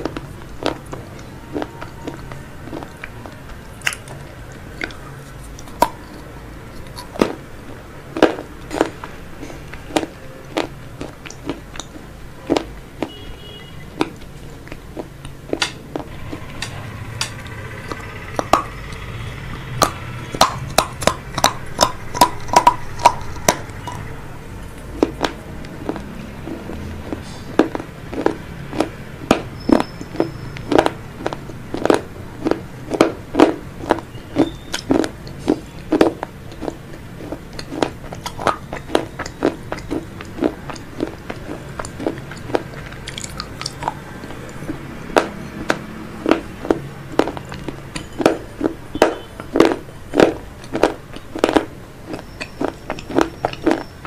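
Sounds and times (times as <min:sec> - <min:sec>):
crunching chips: 0:00.0 - 0:54.0.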